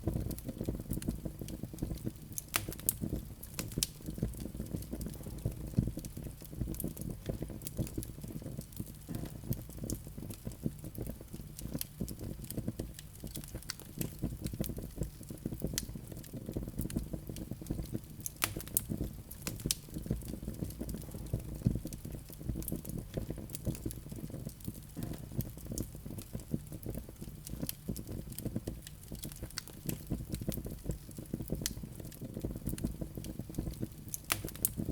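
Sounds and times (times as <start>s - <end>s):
fire crackles and pops: 0.0s - 34.9s
low rumble of flames: 0.0s - 34.9s.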